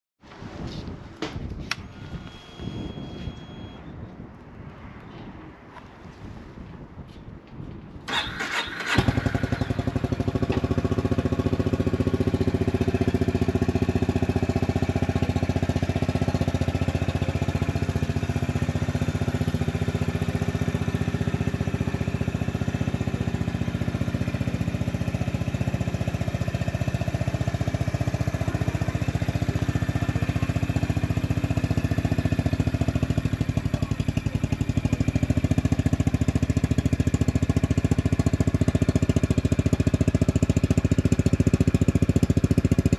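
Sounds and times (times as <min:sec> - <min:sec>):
motorcycle engine idling: 0:08.1 - 0:42.9.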